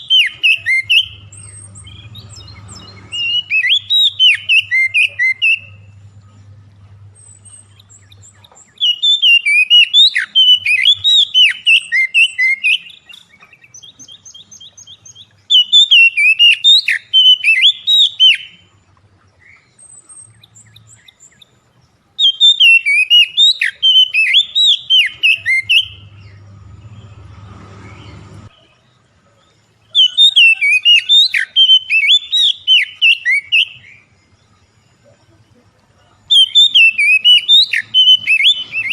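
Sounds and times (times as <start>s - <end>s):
magpie-robin singing: 0.0s - 35.0s, 36.1s - 38.9s.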